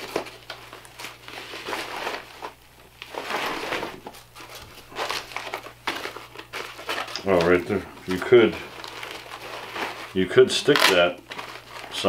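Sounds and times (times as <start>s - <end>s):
nylon pouches rustling: 0.0s - 12.0s.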